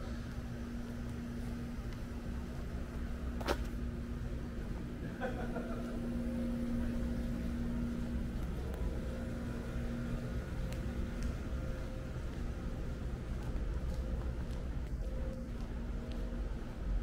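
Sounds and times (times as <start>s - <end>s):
low rumble of traffic: 0.0s - 17.0s
steady hum: 0.0s - 17.0s.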